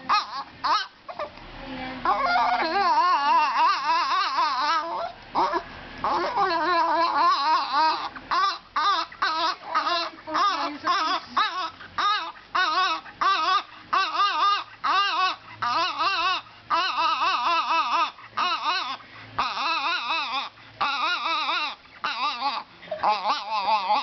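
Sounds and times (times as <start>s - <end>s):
dog whining: 0.0s - 1.4s, 2.0s - 24.0s.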